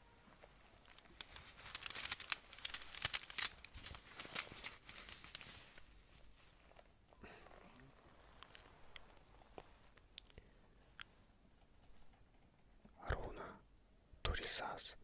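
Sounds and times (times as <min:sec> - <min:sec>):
crinkling and clicking handling sounds: 0:00.0 - 0:13.2.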